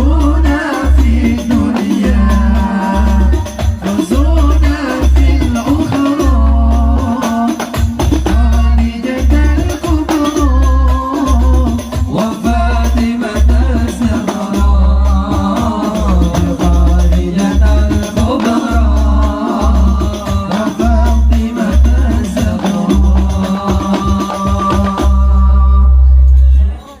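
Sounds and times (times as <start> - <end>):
bass drum beats: 0.0 - 26.7
person singing: 0.0 - 27.0.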